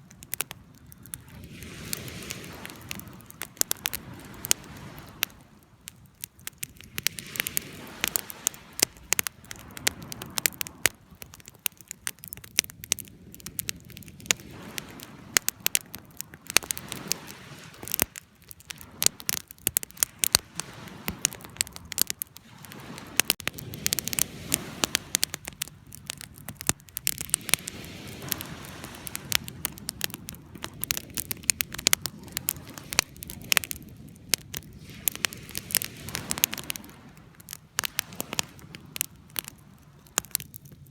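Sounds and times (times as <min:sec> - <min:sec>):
campfire crackling and popping: 0:00.0 - 0:40.9
low rush of burning: 0:00.0 - 0:40.9.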